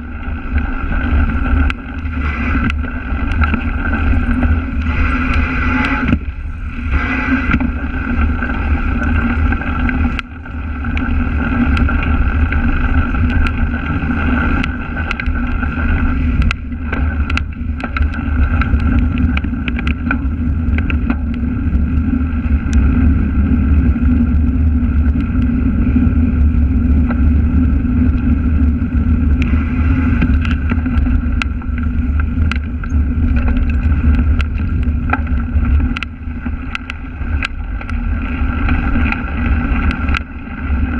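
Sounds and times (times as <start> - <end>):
bike rattling over bumps: 0.0 - 40.9
wind and tyre rumble: 0.0 - 40.9.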